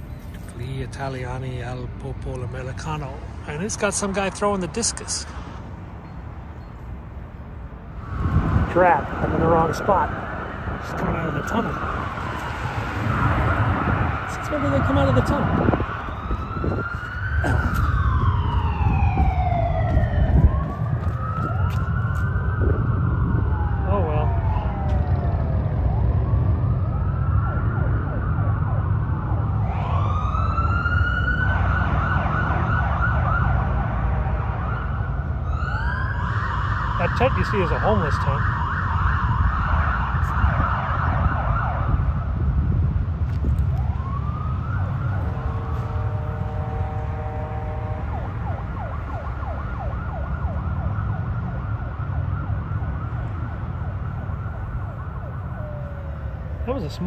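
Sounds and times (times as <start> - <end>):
low traffic rumble: 0.0 - 57.0
police sirens wailing: 7.8 - 57.0.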